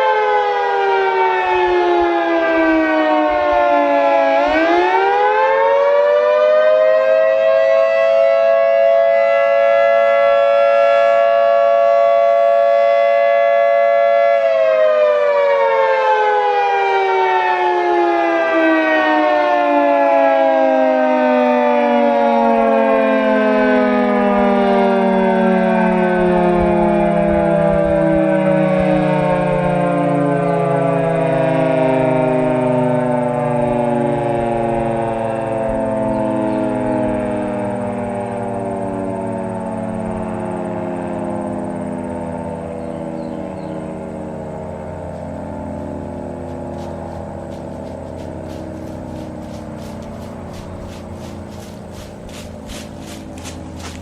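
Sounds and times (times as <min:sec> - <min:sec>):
two-tone warning siren: 0:00.0 - 0:54.0.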